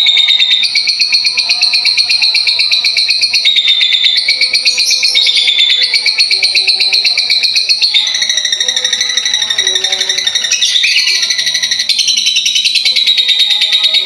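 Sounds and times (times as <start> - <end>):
bird chattering: 0.0 - 14.0.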